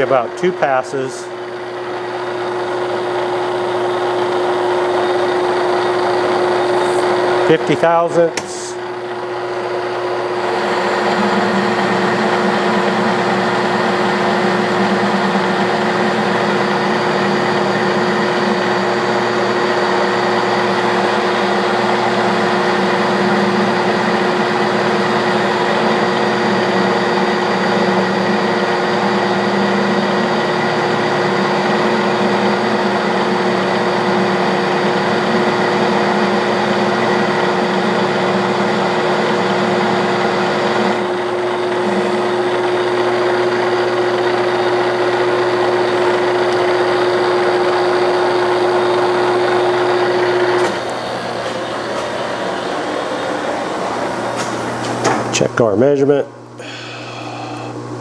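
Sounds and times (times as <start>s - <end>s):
metal lathe running: 0.0s - 58.0s.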